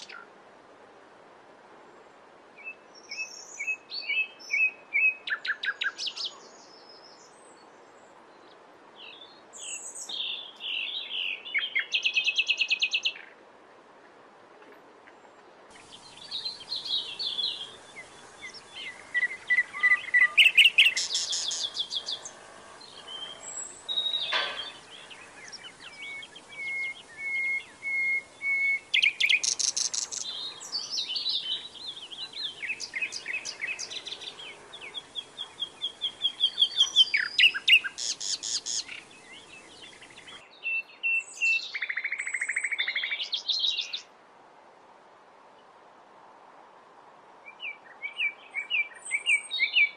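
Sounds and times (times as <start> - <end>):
songbird singing trills: 0.0 - 0.3, 2.6 - 7.7, 8.4 - 13.3, 15.7 - 44.0, 47.5 - 49.9.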